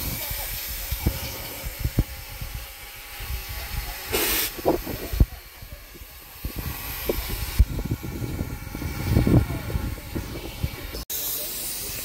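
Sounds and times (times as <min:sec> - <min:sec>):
loud burst of escaping steam: 0:00.0 - 0:12.0
steady hiss of steam: 0:00.0 - 0:12.0.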